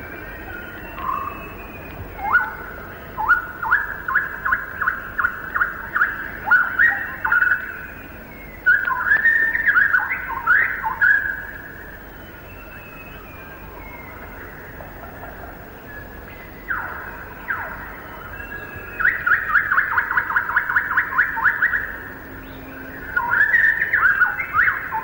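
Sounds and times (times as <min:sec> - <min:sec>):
bird singing whistled notes: 0:00.0 - 0:14.8, 0:15.8 - 0:25.0.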